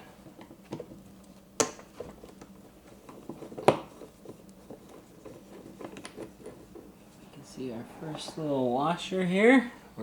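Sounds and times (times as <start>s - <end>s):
faint handling noise: 0.2s - 8.7s.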